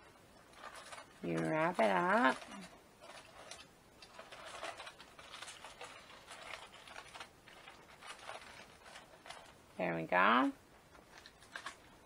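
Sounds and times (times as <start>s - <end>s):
aluminium foil crinkling: 0.0s - 9.8s, 10.9s - 12.0s.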